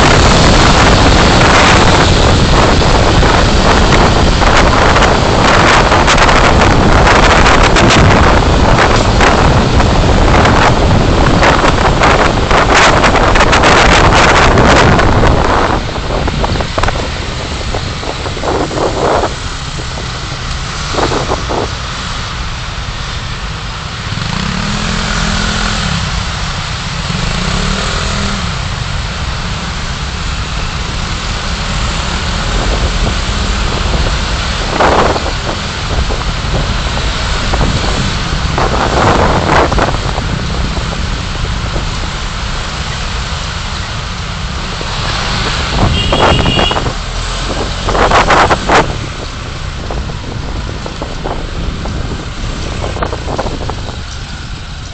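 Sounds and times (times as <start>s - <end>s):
tyre and wind noise: 0.0s - 54.9s
vehicle engine hum: 0.0s - 54.9s
vehicles passing: 0.0s - 54.9s.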